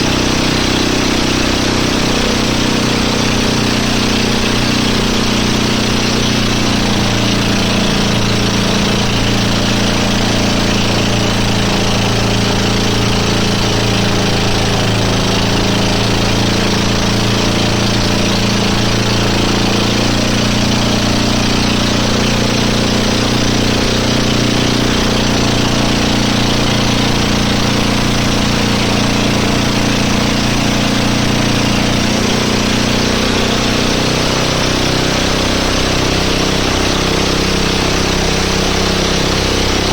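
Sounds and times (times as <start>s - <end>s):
boat engine running: 0.0s - 39.9s
noisy rush: 0.0s - 39.9s.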